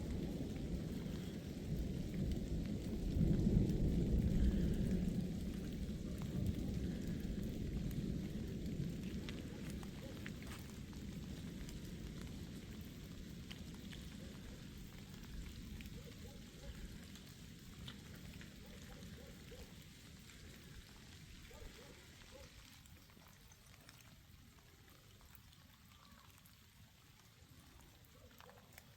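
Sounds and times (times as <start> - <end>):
faint rain with drips: 0.0 - 28.9.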